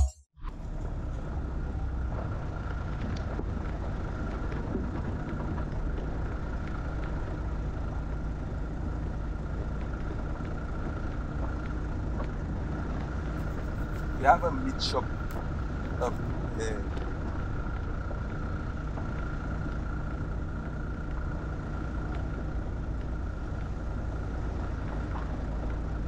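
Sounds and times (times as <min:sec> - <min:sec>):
vehicle engine hum: 0:00.0 - 0:26.0
road rumble: 0:00.4 - 0:26.0.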